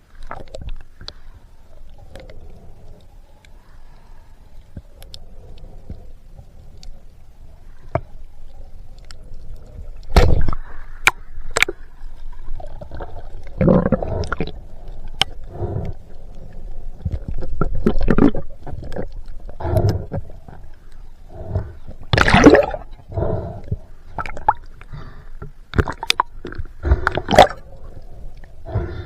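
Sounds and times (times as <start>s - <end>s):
water gurgling and sloshing: 3.9s - 29.0s.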